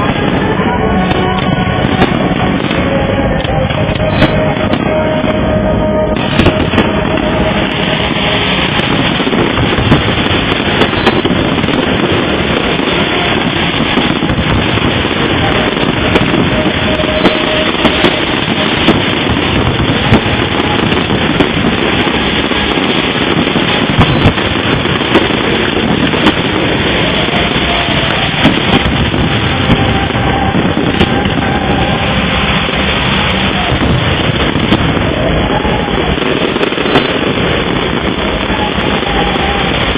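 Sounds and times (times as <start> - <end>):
fireworks bursting: 0.0 - 39.9
sharp firework cracks: 6.2 - 39.9.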